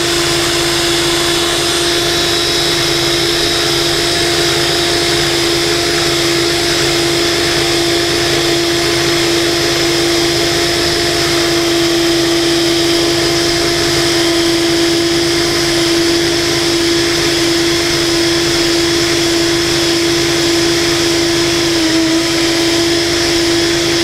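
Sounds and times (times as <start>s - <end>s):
cordless drill whining: 0.0s - 24.0s.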